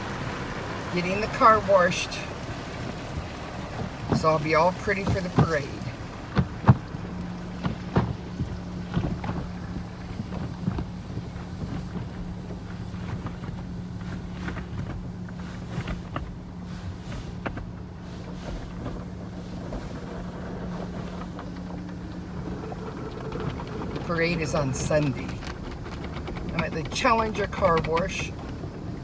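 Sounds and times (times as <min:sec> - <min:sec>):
car wash brushes swishing: 0:00.0 - 0:29.0
steady low hum: 0:00.0 - 0:29.0
water and soap spraying: 0:00.0 - 0:29.0.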